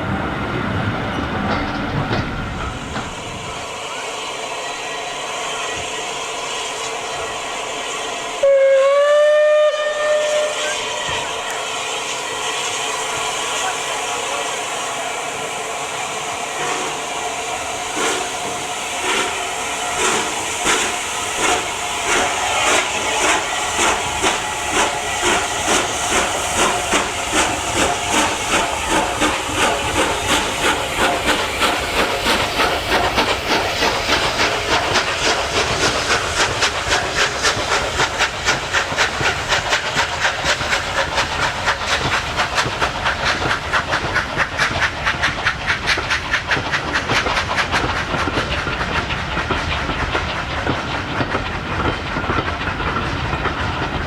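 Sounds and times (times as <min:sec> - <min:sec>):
steam locomotive exhaust beats: 0:00.0 - 0:54.0
steam hissing: 0:00.6 - 0:54.0.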